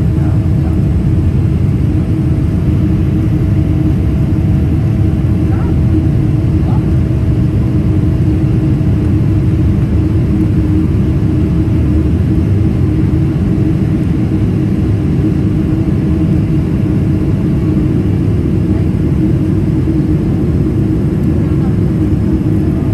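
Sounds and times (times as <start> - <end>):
airplane cabin engine rumble: 0.0 - 22.9.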